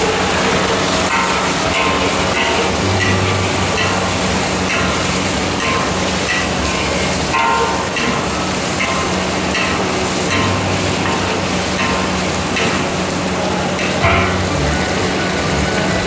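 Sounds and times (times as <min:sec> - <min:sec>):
food stir-frying in a wok: 0:00.0 - 0:16.0
steady rushing noise with hum: 0:00.0 - 0:16.0.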